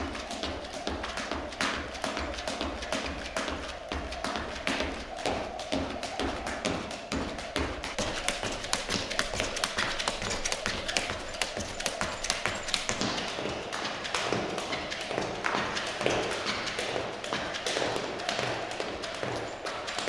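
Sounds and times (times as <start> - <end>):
feet landing: 0.0 - 18.6
jump rope slapping wooden floor: 0.0 - 20.0.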